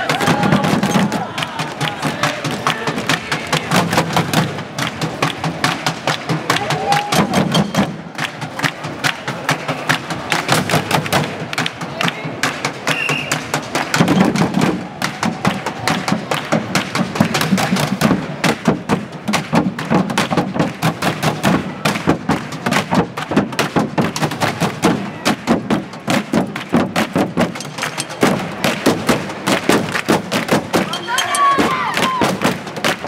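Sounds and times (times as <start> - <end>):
fast drum strikes: 0.0 - 33.0.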